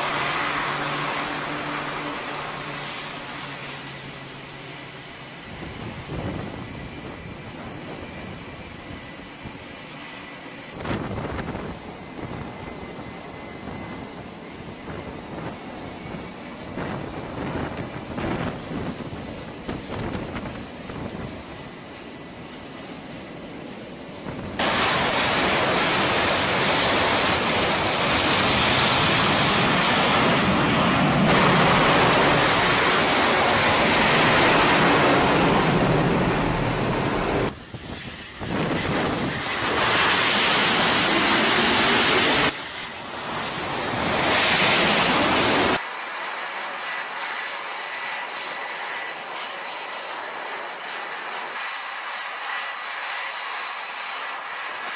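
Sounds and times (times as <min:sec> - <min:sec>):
high turbine whine: 0:00.0 - 0:54.9
loud jet engine noise: 0:00.0 - 0:54.9.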